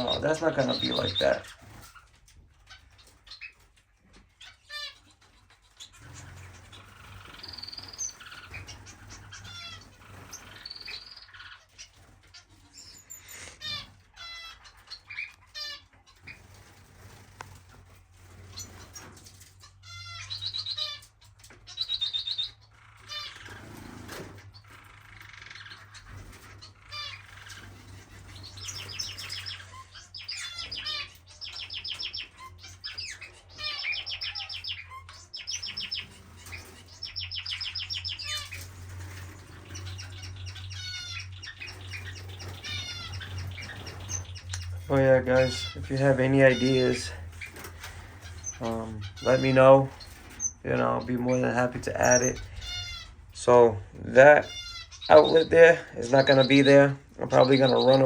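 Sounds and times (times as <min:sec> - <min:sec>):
wings fluttering: 0:00.0 - 0:19.8, 0:22.8 - 0:58.0
finches chirping and trilling: 0:00.0 - 0:58.0.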